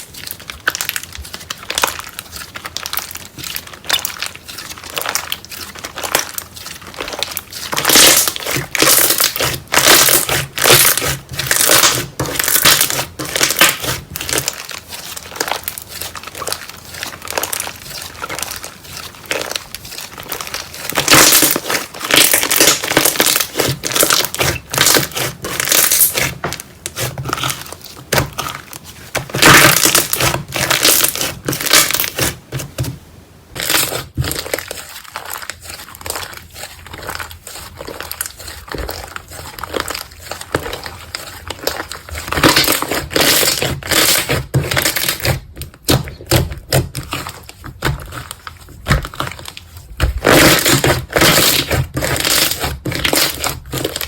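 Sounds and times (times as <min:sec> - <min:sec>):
slime crackling and popping: 0:00.0 - 0:32.9, 0:33.5 - 0:54.0.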